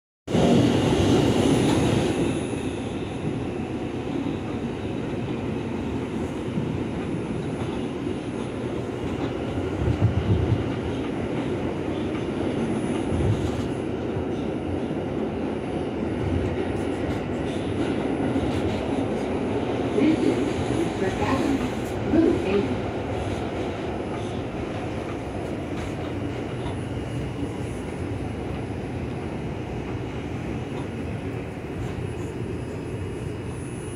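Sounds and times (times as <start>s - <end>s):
subway wheels rumbling on rails: 0.3s - 33.9s.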